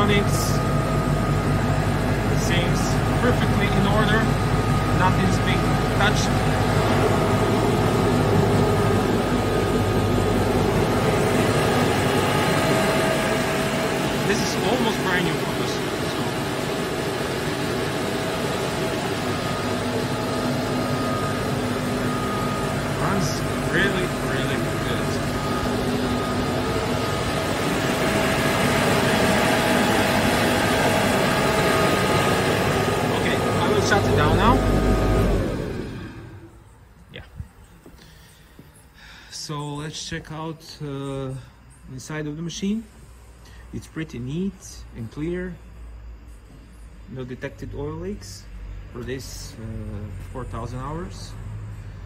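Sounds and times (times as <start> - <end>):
air compressor humming: 0.0 - 52.0
faint steady whine: 0.0 - 52.0.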